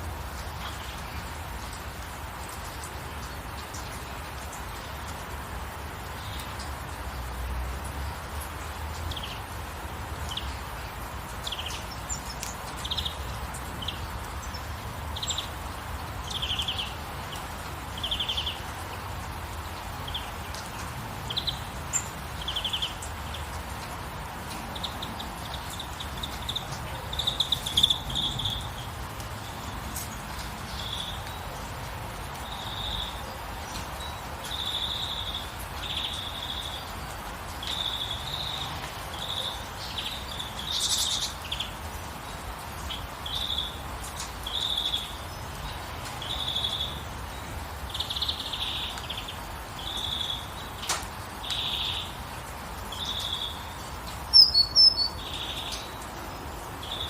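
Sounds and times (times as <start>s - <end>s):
rain hiss: 0.0s - 57.0s
songbirds chirping and trilling: 0.0s - 57.0s.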